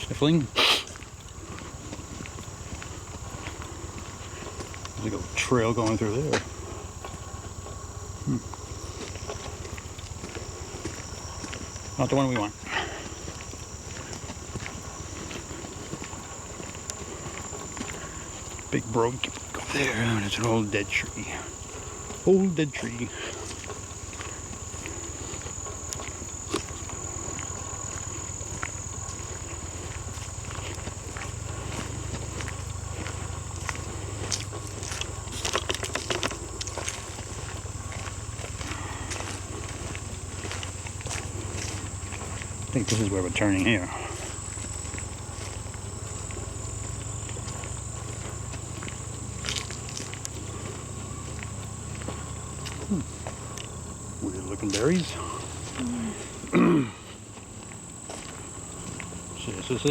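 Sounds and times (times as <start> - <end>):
crickets chirring: 0.0 - 59.9
footsteps on a trail: 0.0 - 59.9
insect chorus droning: 0.0 - 59.9.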